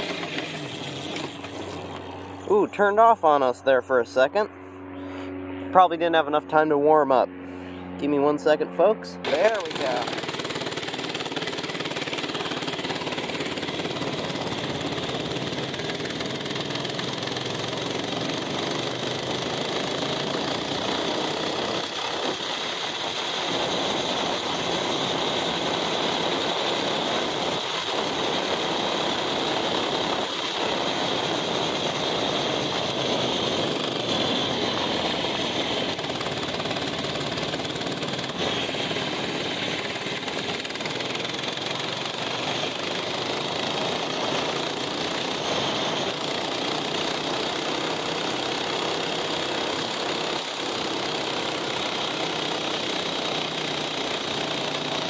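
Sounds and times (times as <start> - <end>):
mini bike engine running: 0.0 - 3.2, 8.9 - 55.0.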